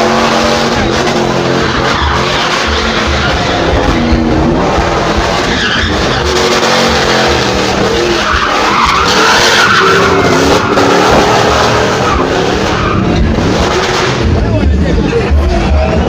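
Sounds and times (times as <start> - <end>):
car engine revving: 0.0 - 16.0
tyres skidding and squealing: 0.0 - 16.0.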